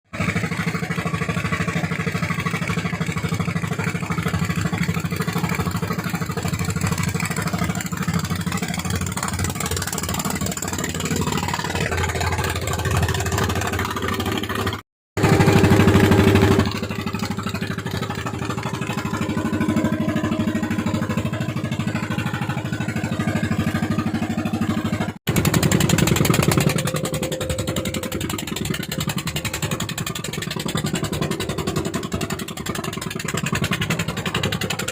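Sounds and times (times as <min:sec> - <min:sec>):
boat engine at full throttle: 0:00.0 - 0:34.9.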